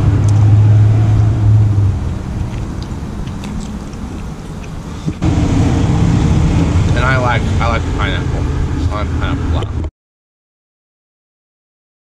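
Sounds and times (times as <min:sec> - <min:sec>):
faint traffic noise: 0:00.0 - 0:09.8
vehicle engine hum: 0:00.0 - 0:09.9.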